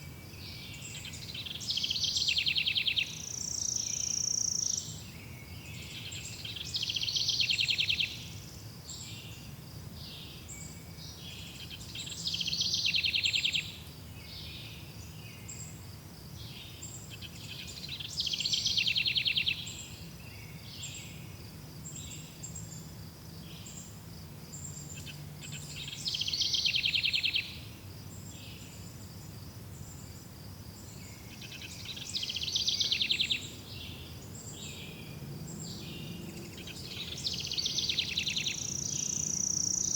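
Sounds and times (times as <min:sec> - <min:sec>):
faint bird chirps: 0:00.0 - 0:15.8, 0:16.4 - 0:39.9
songbird trilling song: 0:00.0 - 0:39.9
insect-like hiss: 0:00.1 - 0:39.9.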